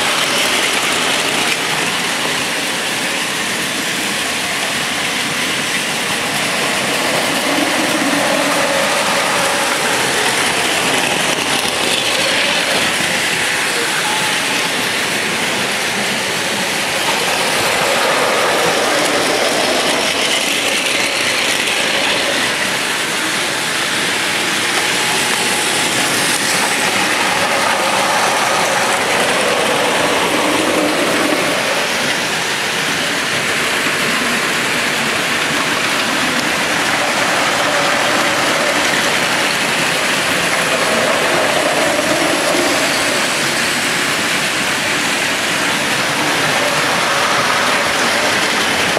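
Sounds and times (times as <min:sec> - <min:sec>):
toy train motors whirring: 0:00.0 - 0:48.9
wheels rattling on plastic rails: 0:00.0 - 0:48.9.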